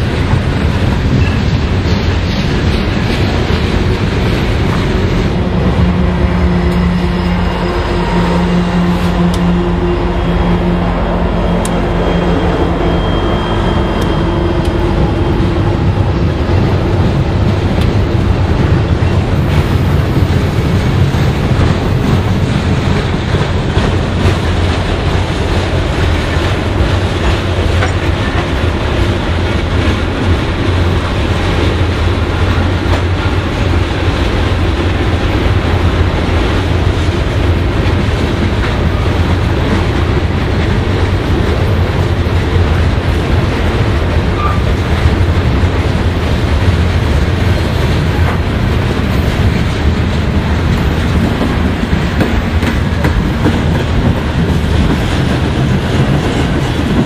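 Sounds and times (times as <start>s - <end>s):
freight car wheels rumbling: 0.0s - 57.0s
locomotive engines humming: 0.0s - 57.0s.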